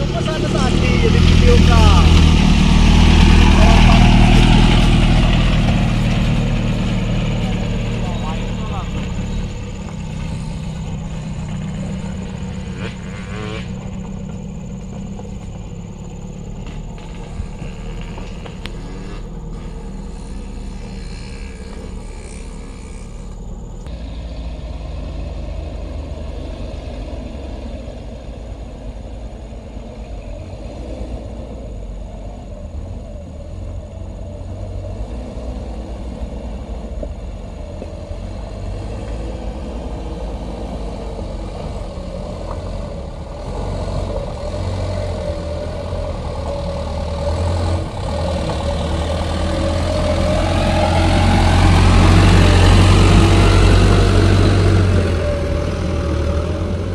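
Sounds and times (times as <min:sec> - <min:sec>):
diesel truck engine climbing: 0:00.0 - 0:56.9.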